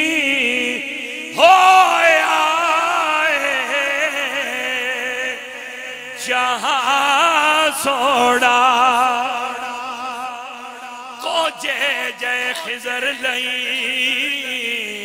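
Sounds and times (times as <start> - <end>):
man singing with vibrato: 0.0 - 15.0.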